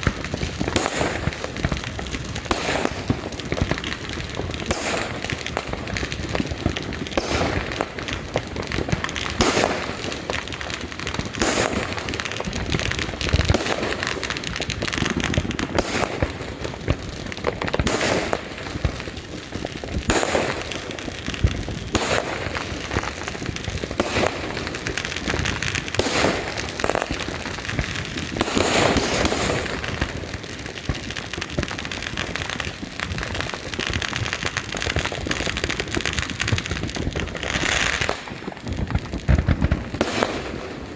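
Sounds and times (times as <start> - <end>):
firecracker bangs: 0.0 - 40.9
fireworks crackling: 0.0 - 40.9.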